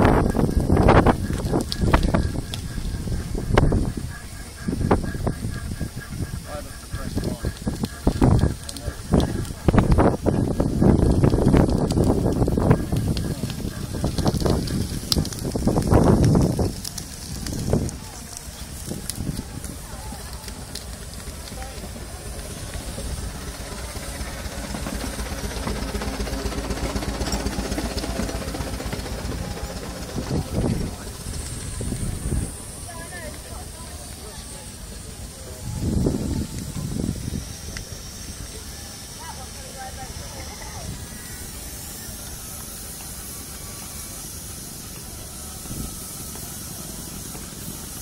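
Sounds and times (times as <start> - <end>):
steam engine exhaust chuffing: 0.0 - 48.0
steam hissing: 0.0 - 48.0.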